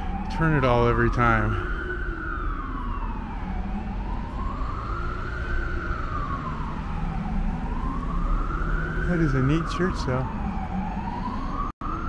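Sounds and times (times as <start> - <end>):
emergency siren wailing: 0.0 - 12.0
street traffic rumble: 0.0 - 12.0.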